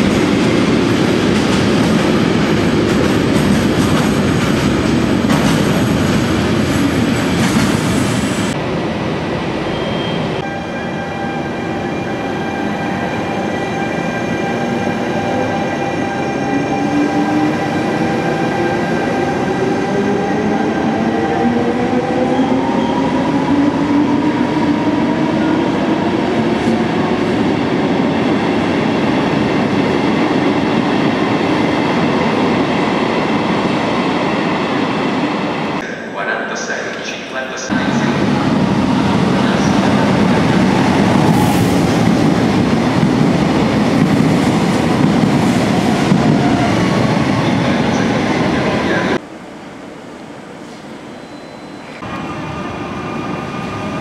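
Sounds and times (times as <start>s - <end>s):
freight train rumbling past: 0.0s - 36.8s, 37.6s - 50.6s.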